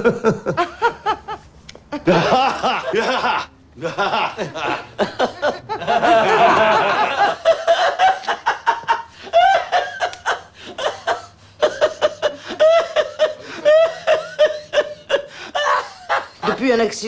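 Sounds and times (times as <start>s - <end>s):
men laughing heartily: 0.0s - 16.6s.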